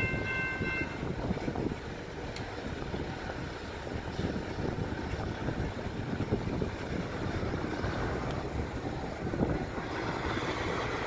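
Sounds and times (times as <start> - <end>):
road traffic rumbling: 0.0 - 11.0
wind buffeting microphone: 0.0 - 11.0.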